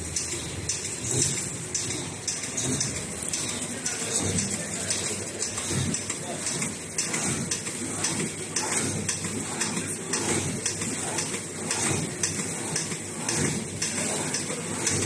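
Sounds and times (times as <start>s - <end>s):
machine clattering with short clacks: 0.0s - 15.0s.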